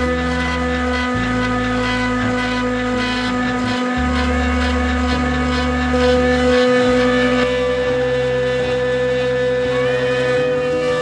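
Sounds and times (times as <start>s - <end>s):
router spindle whine: 0.0s - 11.0s.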